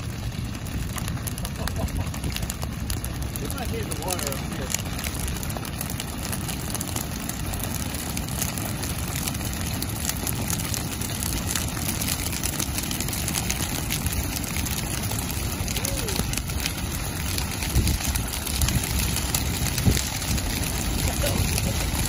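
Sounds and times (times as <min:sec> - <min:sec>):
grass fire crackling: 0:00.0 - 0:22.0
low rumble of fire: 0:00.0 - 0:22.0.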